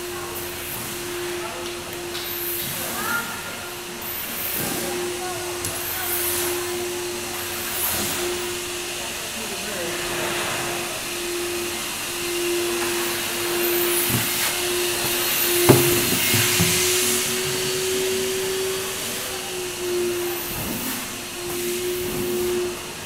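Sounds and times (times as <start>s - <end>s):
machine hum with whine: 0.0s - 23.0s.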